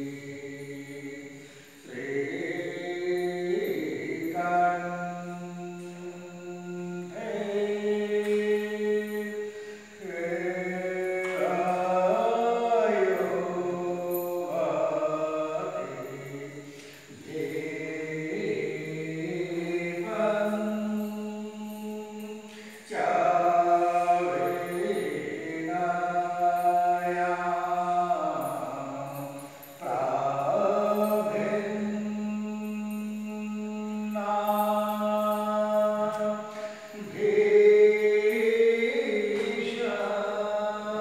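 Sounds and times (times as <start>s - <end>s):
devotional chant singing: 0.0s - 41.0s.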